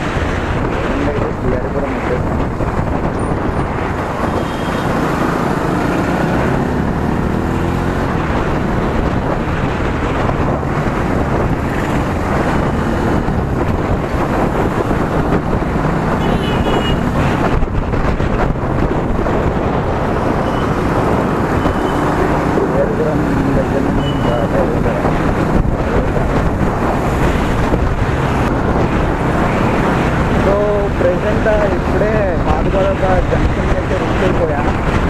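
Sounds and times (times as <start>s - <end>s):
wind rush on microphone: 0.0s - 35.0s
motorcycle engine accelerating: 2.4s - 30.9s.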